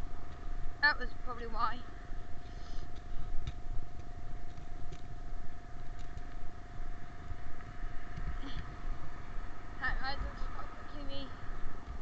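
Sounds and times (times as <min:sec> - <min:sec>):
high-pitched whine: 0:00.0 - 0:12.0
wind rumbling on microphone: 0:00.0 - 0:12.0.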